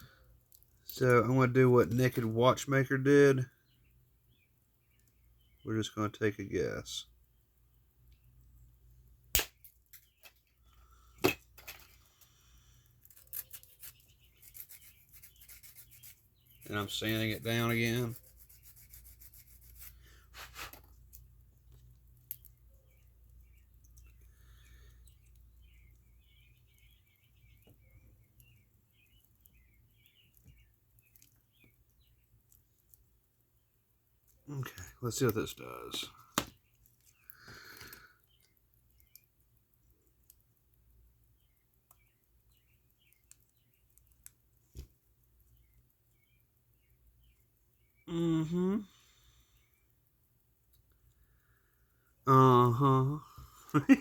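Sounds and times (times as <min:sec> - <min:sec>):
faint rapid bird chirping: 0:00.0 - 0:11.2, 0:11.9 - 0:54.0.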